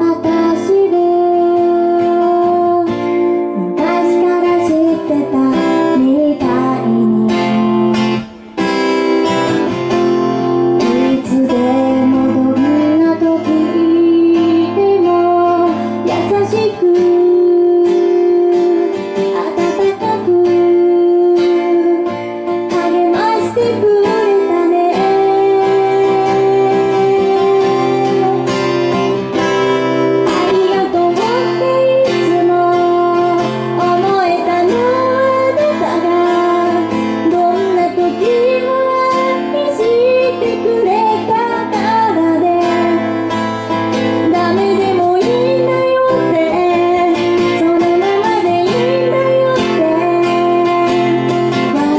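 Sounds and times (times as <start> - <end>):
acoustic guitar strumming: 0.0 - 51.9
woman singing: 0.0 - 51.9.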